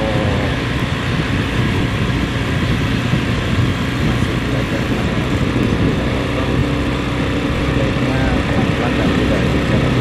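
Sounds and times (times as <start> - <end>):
motorbike engine hum: 0.0 - 10.0
wind rushing: 0.0 - 10.0.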